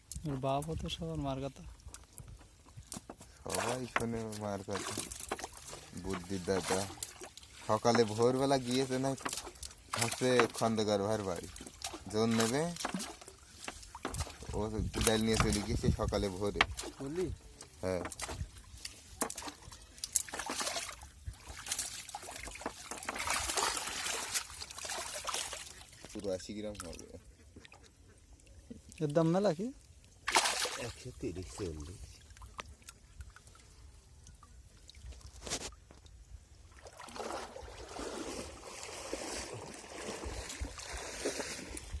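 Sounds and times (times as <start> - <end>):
water splashing and trickling: 0.0 - 42.0.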